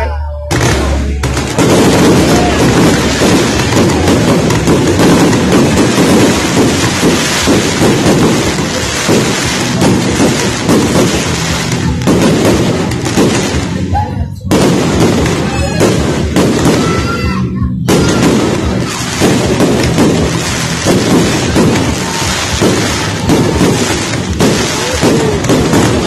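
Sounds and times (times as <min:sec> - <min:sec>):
music: 0:00.0 - 0:26.0
fireworks bangs and crackling: 0:00.5 - 0:26.0.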